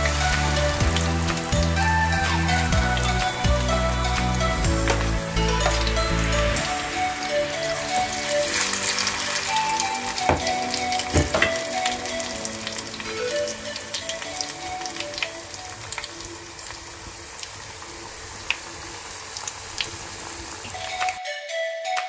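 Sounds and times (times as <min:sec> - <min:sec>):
shrimp deep-frying in oil: 0:00.0 - 0:21.2.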